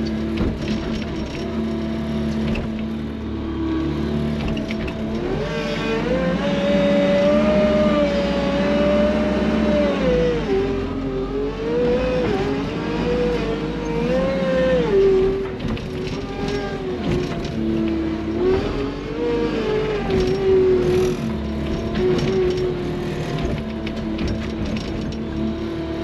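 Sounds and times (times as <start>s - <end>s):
loader engine and hydraulics: 0.0s - 26.0s.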